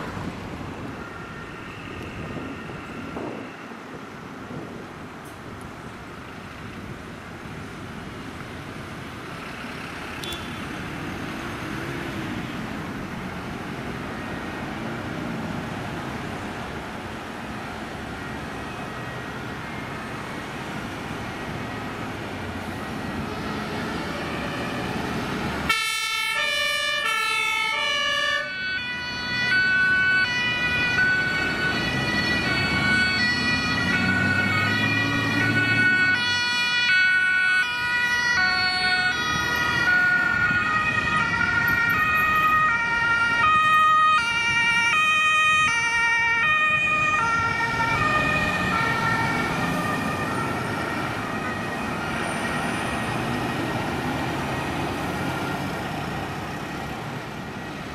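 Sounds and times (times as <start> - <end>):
fire engine two-tone sirens: 0.0 - 57.9
fire truck engines running: 0.0 - 57.9.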